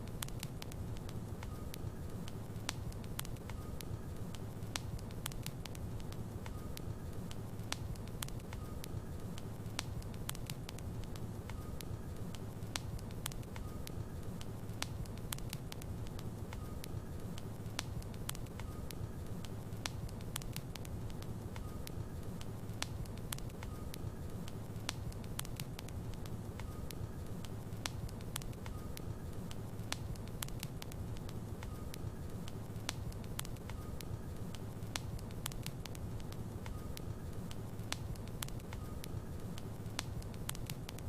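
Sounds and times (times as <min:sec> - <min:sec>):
logs crackling and popping: 0:00.0 - 0:41.0
low rumble of flame: 0:00.0 - 0:41.0.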